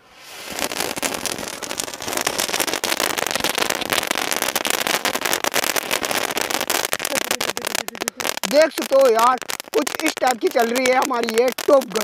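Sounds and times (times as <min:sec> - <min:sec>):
firework spraying sparks with crackling: 0:00.0 - 0:12.0.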